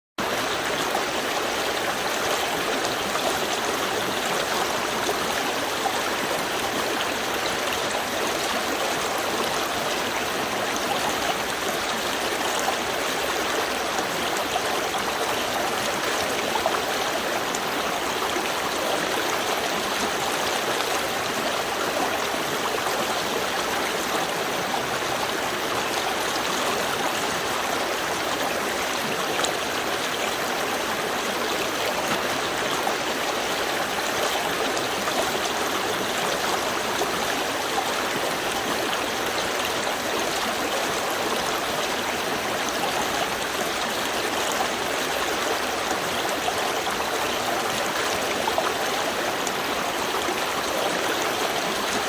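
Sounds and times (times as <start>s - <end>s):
stream flowing over stones: 0.2s - 52.0s.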